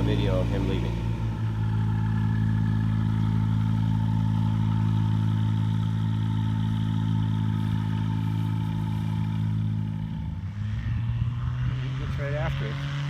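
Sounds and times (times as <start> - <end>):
aircraft engine running steadily: 0.0 - 13.0.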